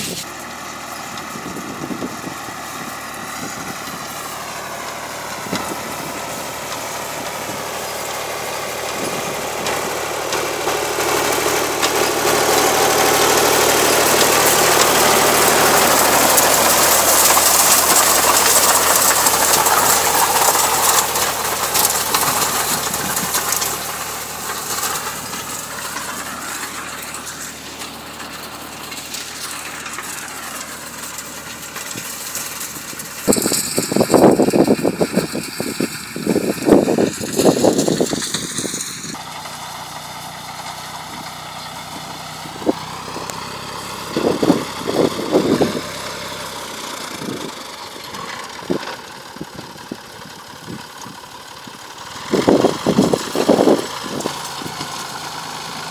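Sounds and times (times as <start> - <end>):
rough engine bursts: 0.0 - 55.9
tractor engine running: 0.0 - 55.9.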